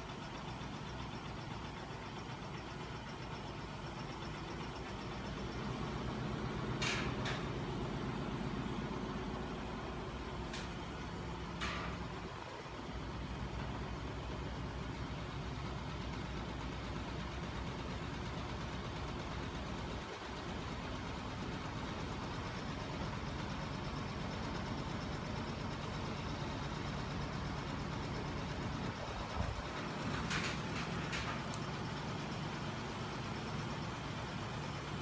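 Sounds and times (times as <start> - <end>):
motor-driven engine rig running: 0.0 - 35.0.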